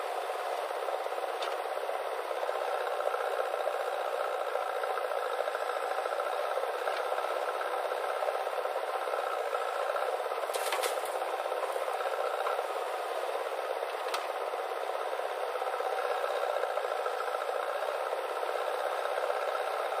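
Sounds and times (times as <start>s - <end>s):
backhoe loader rattling: 0.3s - 17.8s.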